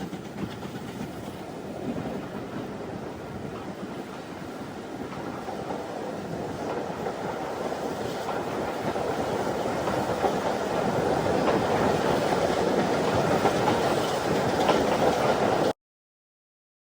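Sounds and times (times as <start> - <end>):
clickety-clack of rail joints: 0.0 - 15.7
train wheels rumbling on rail: 0.0 - 15.8.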